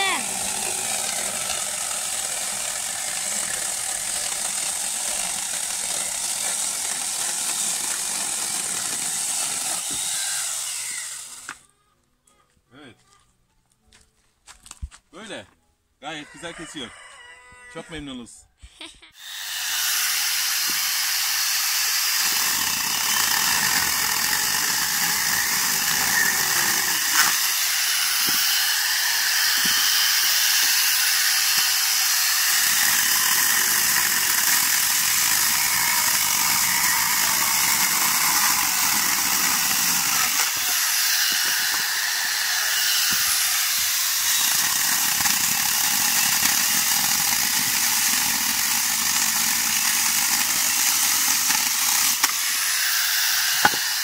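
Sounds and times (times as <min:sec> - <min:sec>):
chain cutting through logs: 0:00.0 - 0:11.6, 0:19.2 - 0:54.0
electric chainsaw whirring: 0:00.0 - 0:11.6, 0:19.2 - 0:54.0.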